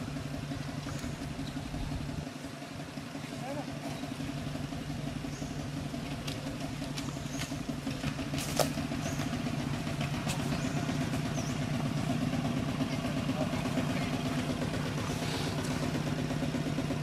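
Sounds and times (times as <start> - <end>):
motor engine idling: 0.0 - 17.0.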